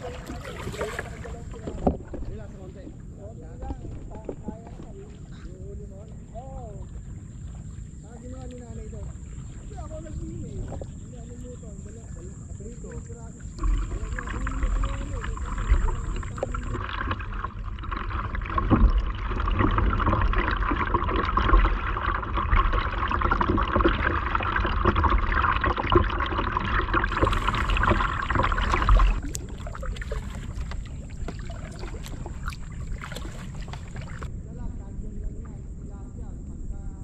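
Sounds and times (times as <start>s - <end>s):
lapping water: 0.0s - 34.3s
paddle splashing water: 0.0s - 34.3s.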